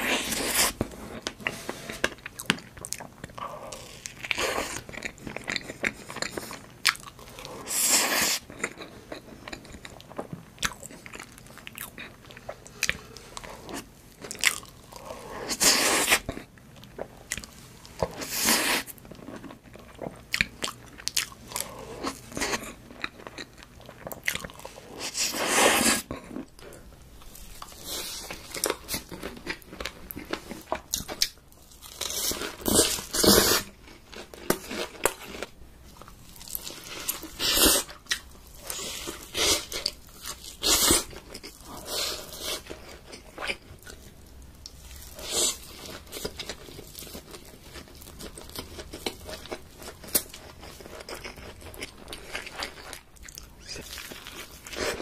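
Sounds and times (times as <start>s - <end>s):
chewing: 2.2s - 18.3s, 19.0s - 25.3s, 26.0s - 55.0s.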